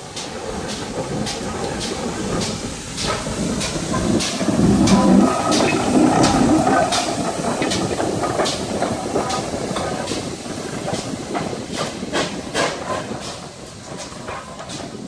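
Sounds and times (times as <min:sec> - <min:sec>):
steam hissing: 0:00.0 - 0:15.0
wheels clicking over rail joints: 0:00.0 - 0:15.0.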